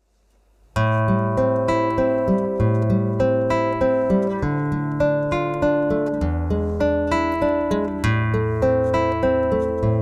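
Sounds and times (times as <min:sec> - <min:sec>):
fingerpicked nylon-string guitar: 0:00.8 - 0:10.0.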